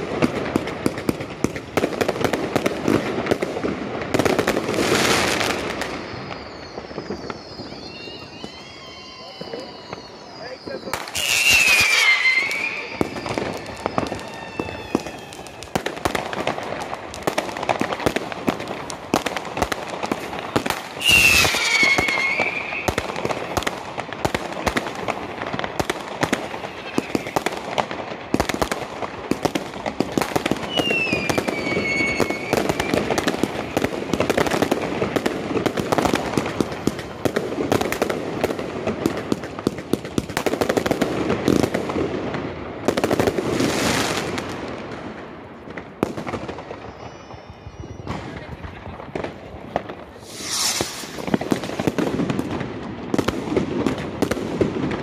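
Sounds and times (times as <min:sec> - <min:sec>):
fireworks bangs and crackles: 0:00.0 - 0:55.0
whistling fireworks falling in pitch: 0:00.0 - 0:55.0.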